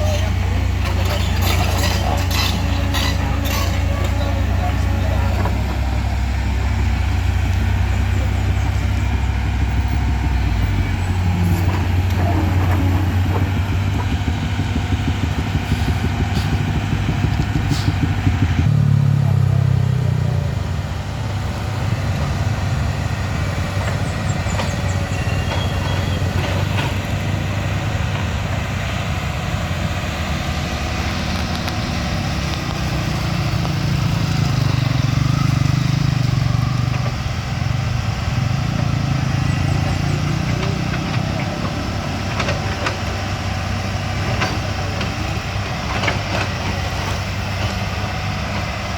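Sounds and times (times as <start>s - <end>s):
vehicle engines running: 0.0s - 48.9s.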